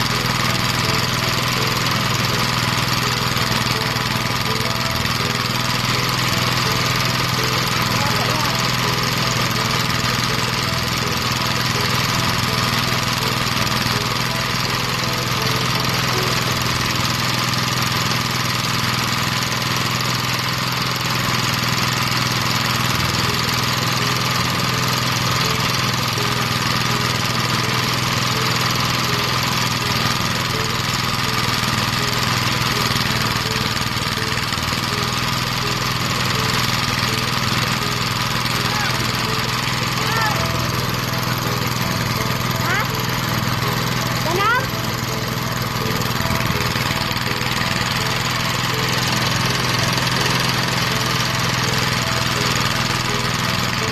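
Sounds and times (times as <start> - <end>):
rice thresher engine droning: 0.0 - 53.9.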